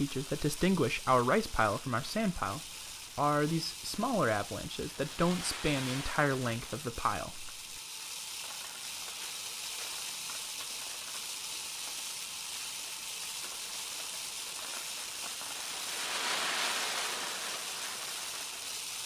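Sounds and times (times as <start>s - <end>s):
rice grains trickling: 0.0s - 19.0s.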